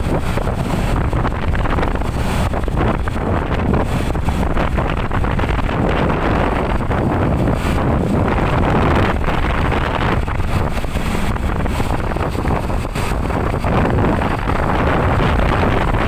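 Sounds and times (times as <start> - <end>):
vehicle engine and road noise: 0.0 - 16.0
wind buffeting microphone: 0.0 - 16.0.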